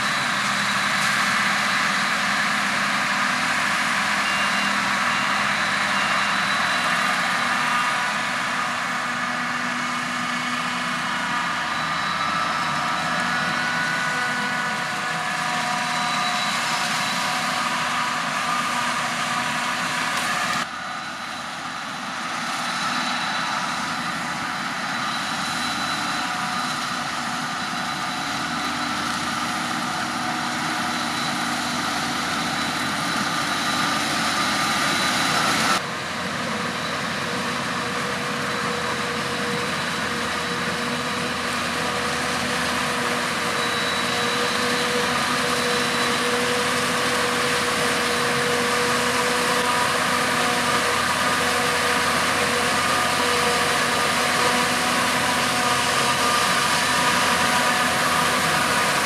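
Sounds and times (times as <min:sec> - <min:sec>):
high machinery whine: 0:00.0 - 0:59.0
tractor engines: 0:00.0 - 0:59.0.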